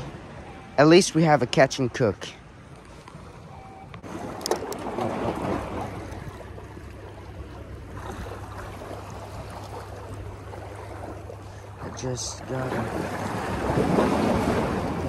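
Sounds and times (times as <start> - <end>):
waves lapping against rocks: 2.4 - 15.0.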